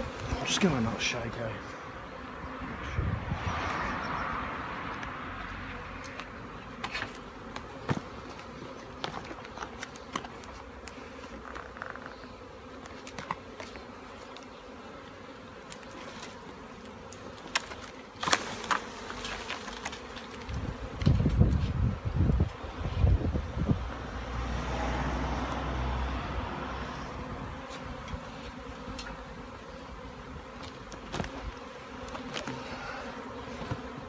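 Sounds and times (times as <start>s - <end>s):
bee swarm buzzing: 0.0s - 34.0s.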